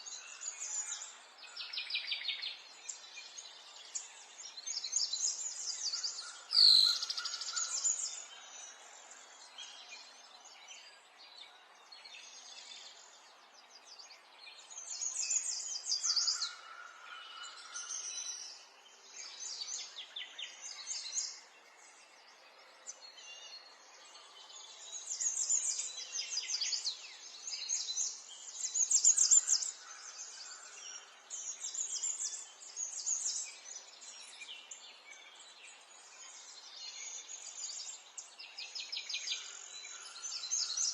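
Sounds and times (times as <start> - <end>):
faint outdoor background: 0.0 - 40.9
songbirds chirping and trilling: 0.0 - 40.9.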